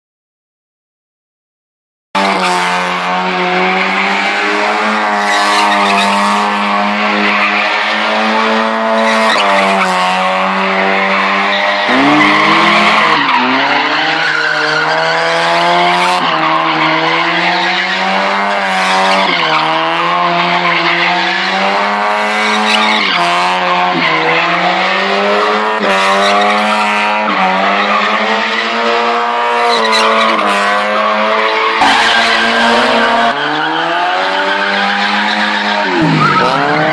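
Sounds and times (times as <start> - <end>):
car engine revving hard: 2.2 - 36.9
tyres squealing: 3.8 - 6.4, 7.1 - 10.1, 11.1 - 36.9.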